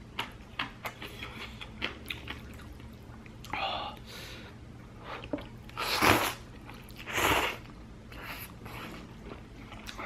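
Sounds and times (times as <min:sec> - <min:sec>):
faint chewing: 0:00.1 - 0:04.1, 0:05.0 - 0:10.0.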